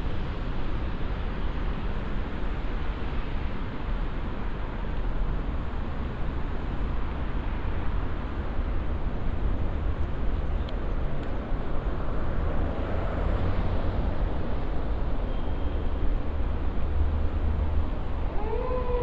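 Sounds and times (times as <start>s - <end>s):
city ambience rumble: 0.0s - 19.0s.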